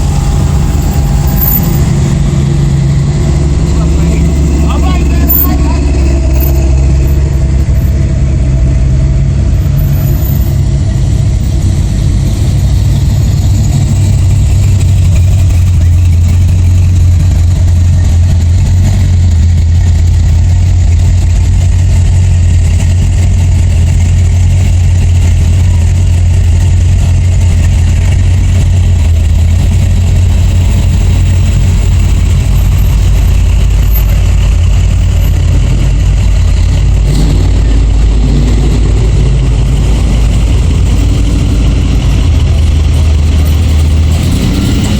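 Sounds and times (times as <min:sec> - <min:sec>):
car engines idling: 0:00.0 - 0:44.9.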